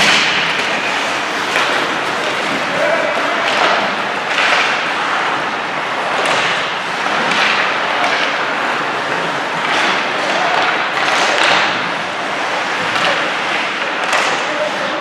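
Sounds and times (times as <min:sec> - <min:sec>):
hockey stick hitting puck: 0:00.0 - 0:15.0
skates scraping ice: 0:00.0 - 0:15.0.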